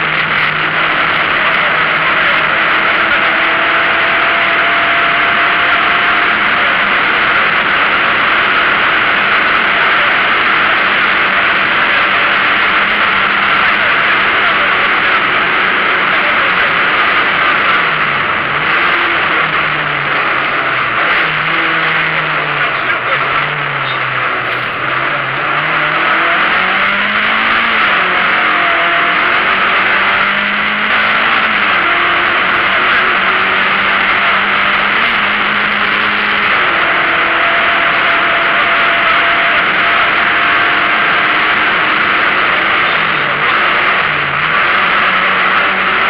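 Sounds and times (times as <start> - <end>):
car engine pulling hard: 0.0 - 46.0
road and wind noise: 0.0 - 46.0.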